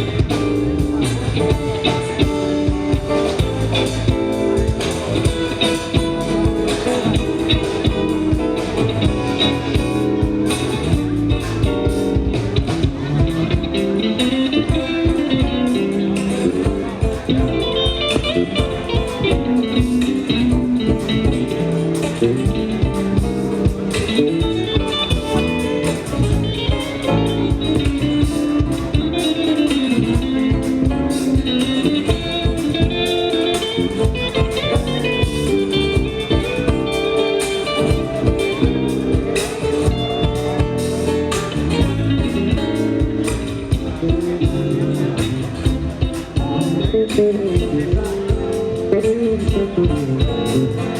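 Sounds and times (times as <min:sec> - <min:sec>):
guitar: 0:00.0 - 0:50.9
live band playing: 0:00.0 - 0:50.9
steady drum beat: 0:00.0 - 0:50.9.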